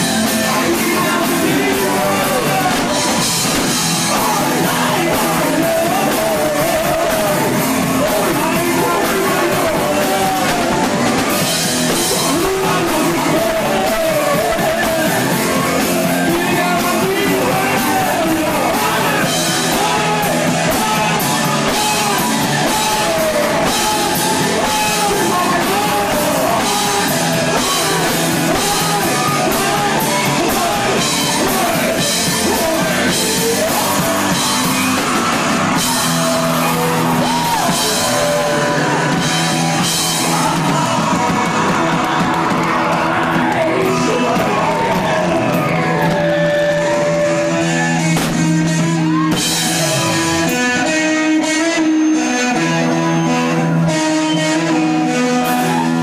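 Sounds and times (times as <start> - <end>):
lead singer singing: 0.0 - 56.0
rock band playing live: 0.0 - 56.0.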